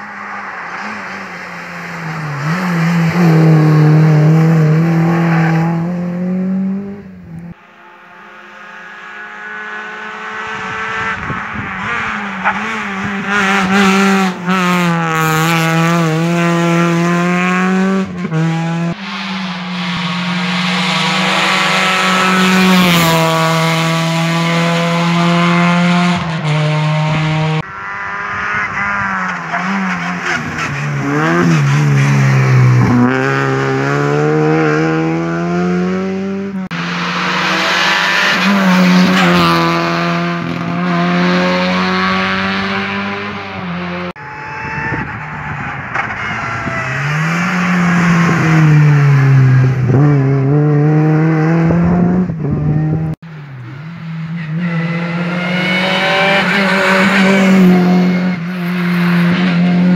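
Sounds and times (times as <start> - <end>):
rally car engines at high revs: 0.0 - 45.2, 45.9 - 59.9
cars passing: 0.0 - 59.9.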